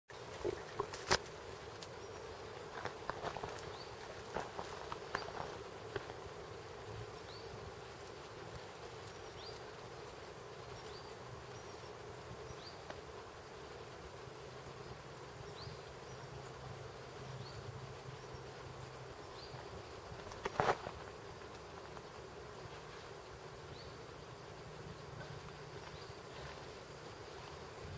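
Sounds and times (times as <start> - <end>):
insect buzz: 0.1 - 27.9.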